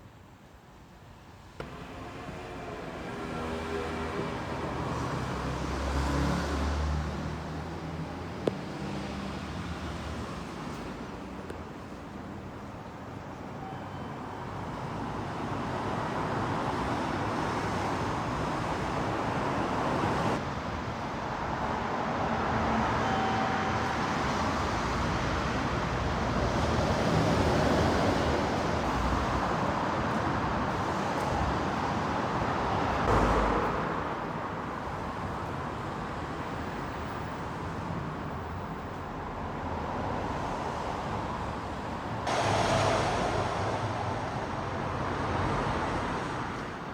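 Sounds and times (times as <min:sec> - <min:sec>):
vehicles passing: 0:01.6 - 0:12.6, 0:14.8 - 0:46.9.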